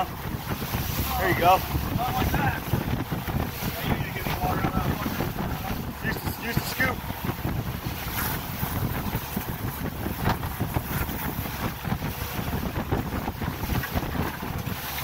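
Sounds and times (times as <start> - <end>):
low rumble: 0.0 - 14.7
rush of boat wake: 0.0 - 15.0
wind buffeting microphone: 0.0 - 15.0.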